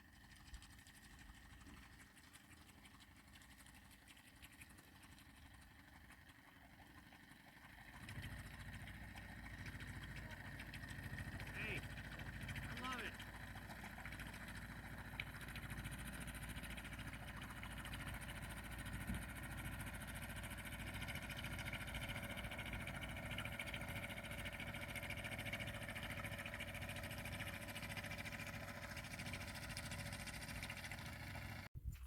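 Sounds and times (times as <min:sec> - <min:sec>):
outboard motor running: 0:00.0 - 0:31.7.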